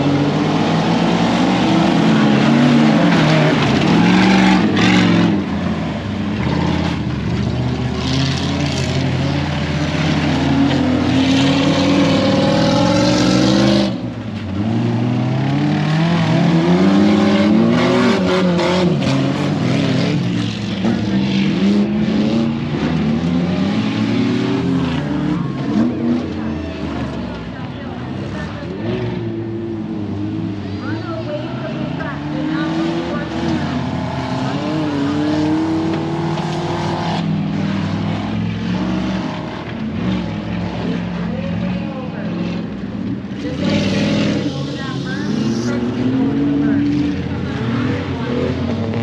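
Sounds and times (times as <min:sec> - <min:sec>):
truck engines revving: 0:00.0 - 0:49.0.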